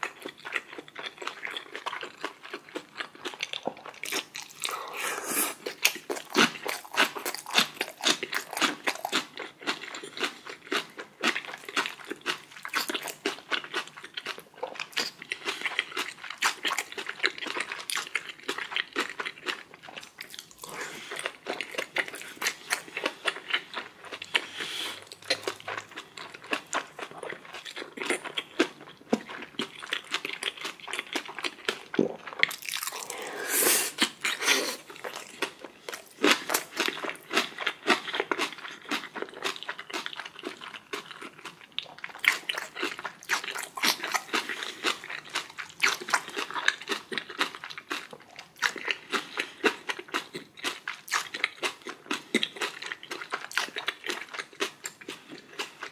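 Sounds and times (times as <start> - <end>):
person chewing and crunching: 0.0 - 55.9.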